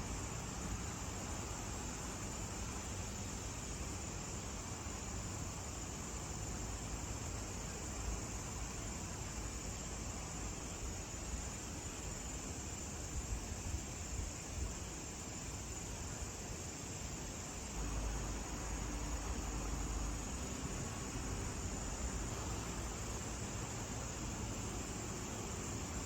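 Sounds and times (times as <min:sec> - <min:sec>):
even hiss: 0:00.0 - 0:26.0.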